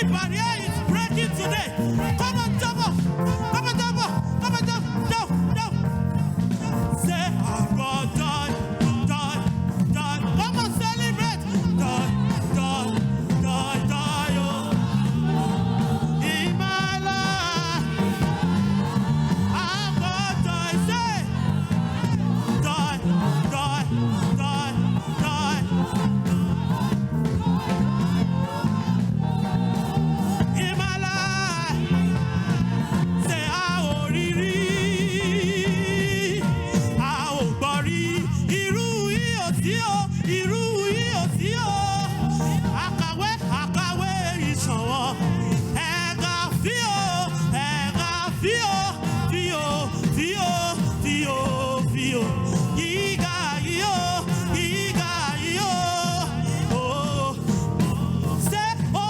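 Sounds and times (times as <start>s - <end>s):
band accompaniment: 0.0s - 59.0s
gospel singing: 0.0s - 59.0s.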